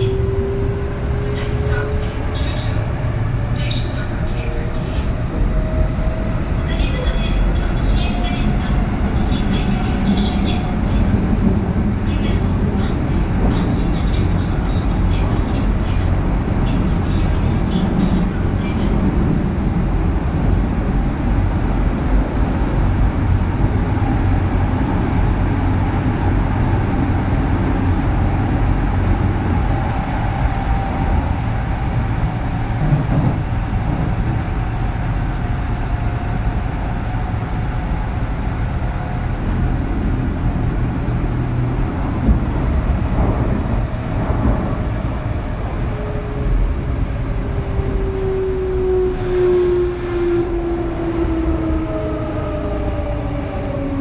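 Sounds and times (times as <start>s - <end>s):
train wheels and motors rumbling: 0.0s - 54.0s.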